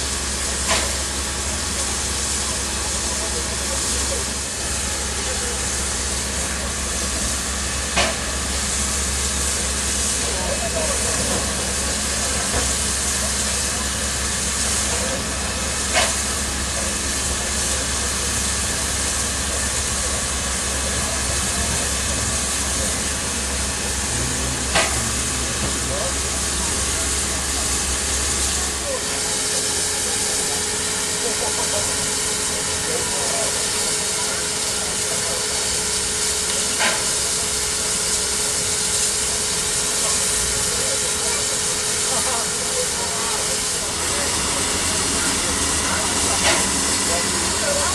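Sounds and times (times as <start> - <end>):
steam hissing from locomotive: 0.0 - 47.9.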